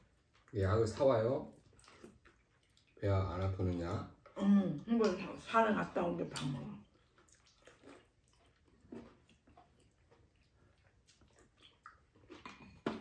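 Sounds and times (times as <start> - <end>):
chewing: 0.0 - 5.4, 6.3 - 13.0.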